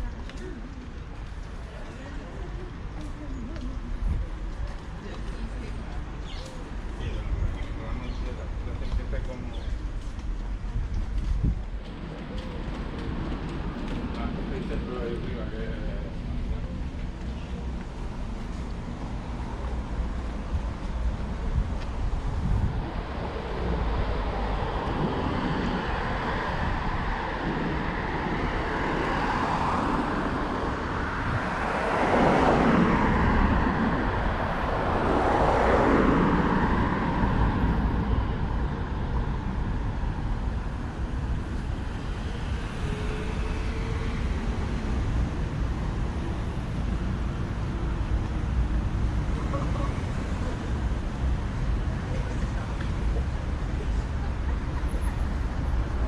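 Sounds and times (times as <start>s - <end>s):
road traffic rumble: 0.0s - 56.0s
vehicles passing close by: 0.0s - 56.0s.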